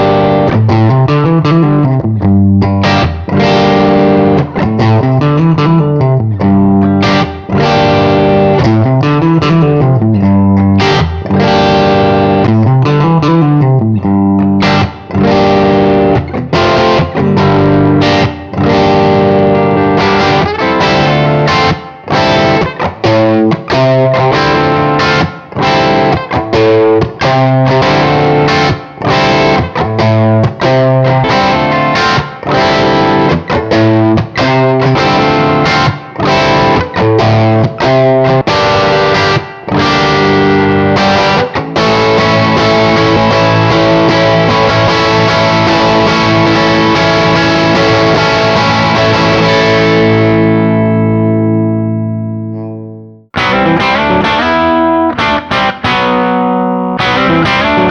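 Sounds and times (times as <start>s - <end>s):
distorted electric guitar riff: 0.0s - 57.9s.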